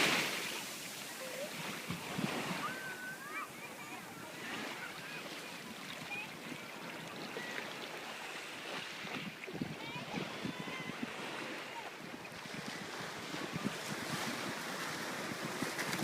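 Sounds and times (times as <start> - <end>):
sea waves washing: 0.0 - 16.0
water splashes: 0.0 - 16.0
wind: 0.0 - 16.0.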